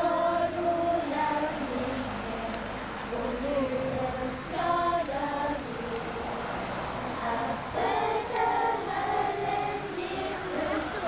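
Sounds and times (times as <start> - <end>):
girls and women singing together: 0.0 - 11.0.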